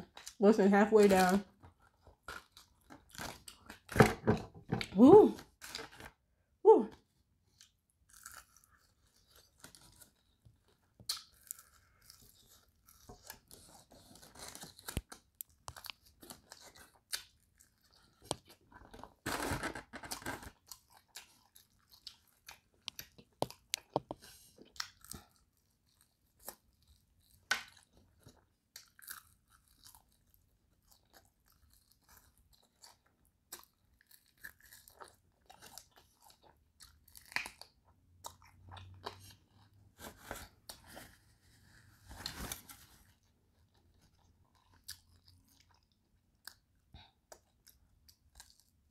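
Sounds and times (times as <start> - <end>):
crunching and chewing chicken wings: 1.1 - 4.0, 7.5 - 40.9, 43.2 - 48.9.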